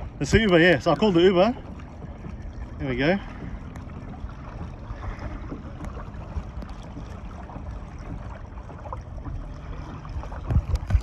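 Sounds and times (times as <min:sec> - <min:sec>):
low rumble: 0:00.0 - 0:11.0
water splashing along kayak hull: 0:00.0 - 0:11.0.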